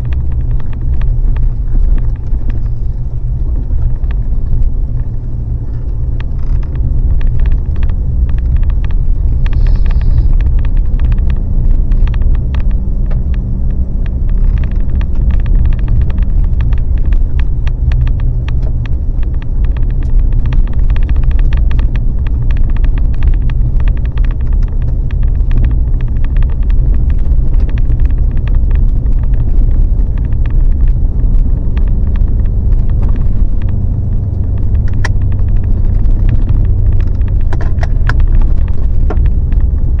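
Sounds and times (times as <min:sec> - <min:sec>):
small rattles: 0:00.0 - 0:40.0
vehicle engine low rumble: 0:00.0 - 0:40.0.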